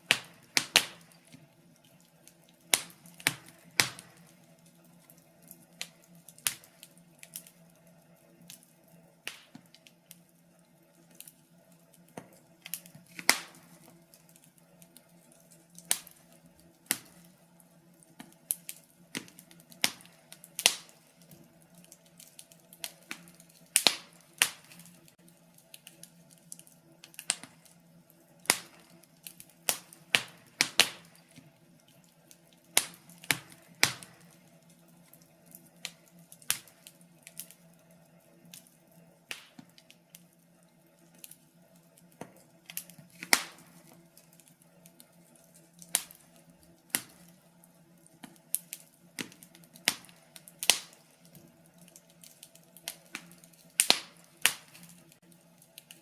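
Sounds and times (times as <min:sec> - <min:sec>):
fire crackling in fireplace: 0:00.0 - 0:56.0.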